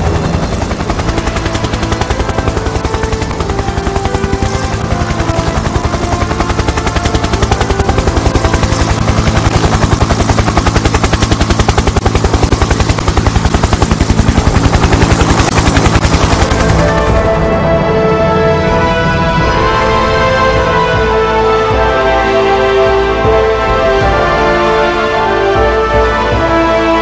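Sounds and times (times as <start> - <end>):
helicopter engine running: 0.0 - 27.0
helicopter rotor chopping: 0.0 - 27.0.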